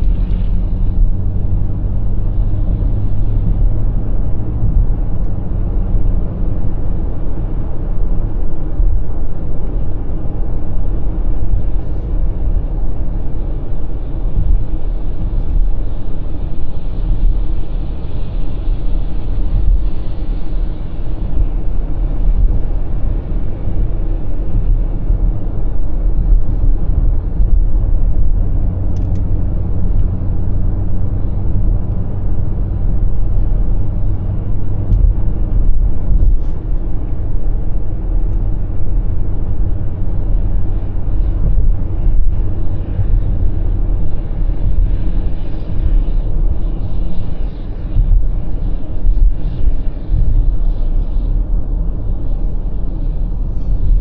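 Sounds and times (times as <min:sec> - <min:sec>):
car cruising road noise: 0:00.0 - 0:54.0.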